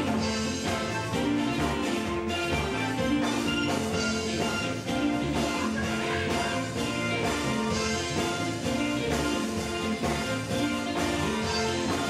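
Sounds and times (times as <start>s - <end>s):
electric guitar: 0.0s - 12.0s
gospel band music: 0.0s - 12.0s
moving bass line: 0.0s - 12.0s.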